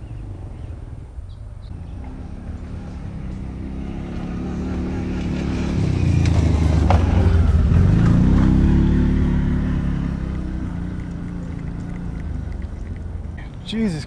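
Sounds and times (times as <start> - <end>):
quad bike engines passing: 0.0 - 14.0.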